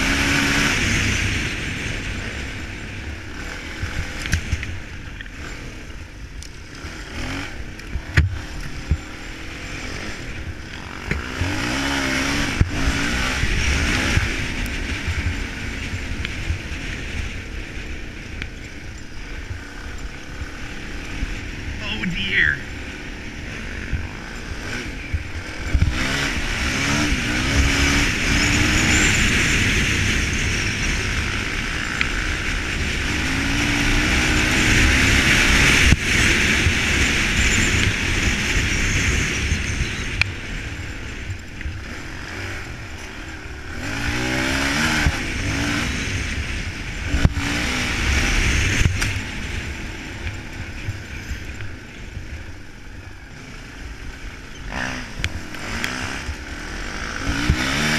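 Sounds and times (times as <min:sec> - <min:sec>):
dirt bike engine revving: 0:00.0 - 0:57.9
wind rush on microphone: 0:00.0 - 0:57.9.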